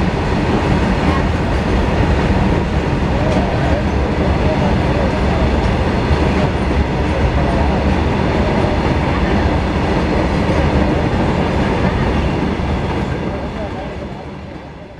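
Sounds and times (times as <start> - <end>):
freight train rumbling past: 0.0 - 14.9.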